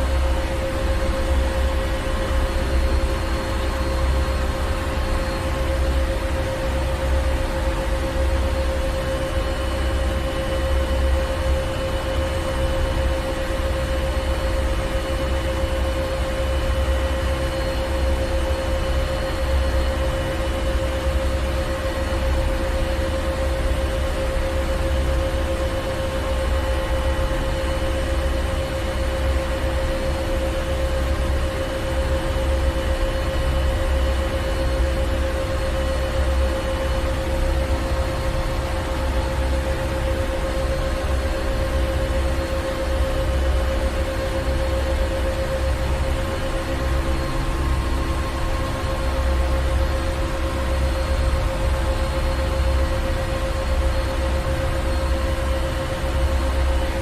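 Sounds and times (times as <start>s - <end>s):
droning hum with steady tones: 0.0s - 57.0s.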